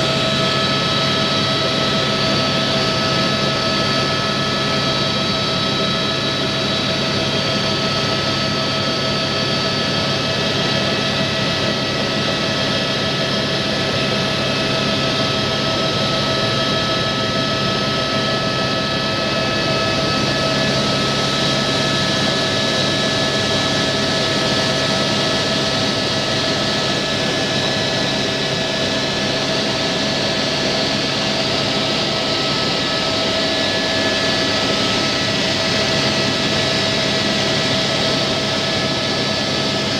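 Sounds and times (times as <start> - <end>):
helicopter cabin whine and drone: 0.0 - 39.9.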